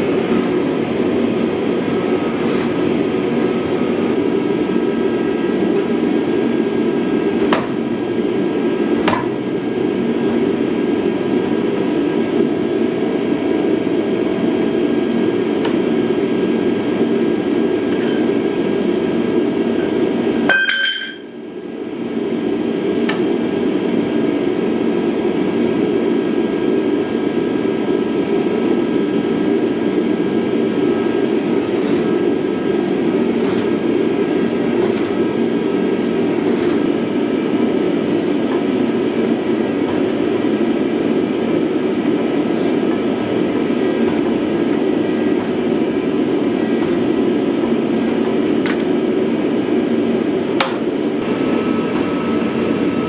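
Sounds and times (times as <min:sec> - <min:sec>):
forging press hum and roar: 0:00.0 - 0:53.0.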